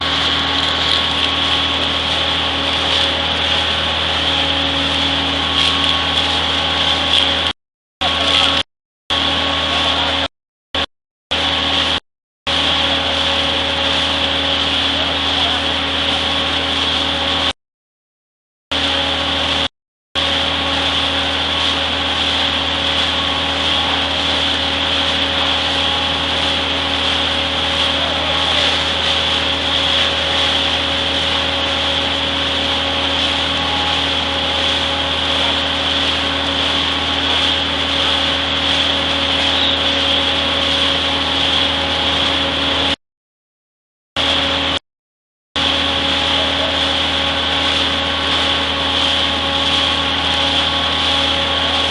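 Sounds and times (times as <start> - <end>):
spraying machine drone: 0.0 - 17.6, 18.7 - 43.0, 44.2 - 44.8, 45.6 - 51.9.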